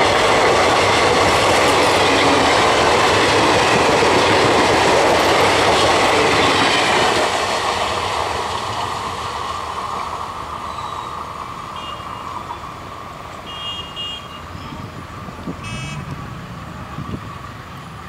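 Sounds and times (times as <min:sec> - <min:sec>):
train wheel and rail noise: 0:00.0 - 0:18.0.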